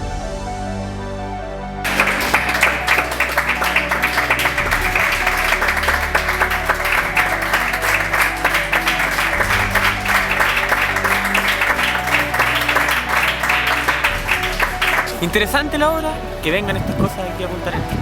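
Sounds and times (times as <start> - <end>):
music with low sustained notes: 0.0 - 18.0
audience applauding: 1.8 - 17.8.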